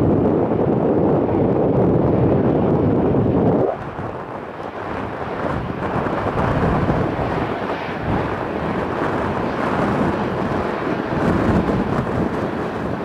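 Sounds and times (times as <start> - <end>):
jet engine rumble: 0.0 - 13.0
wind buffeting microphone: 0.0 - 13.0.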